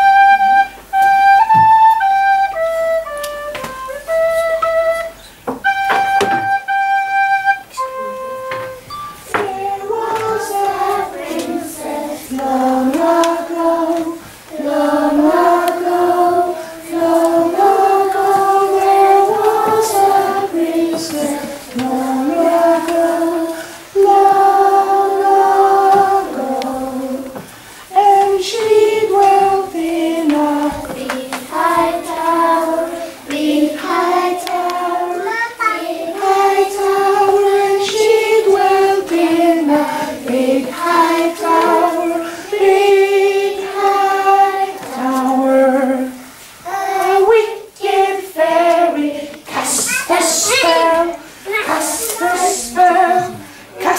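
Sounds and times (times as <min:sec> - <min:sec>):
children singing: 0:00.0 - 0:53.9.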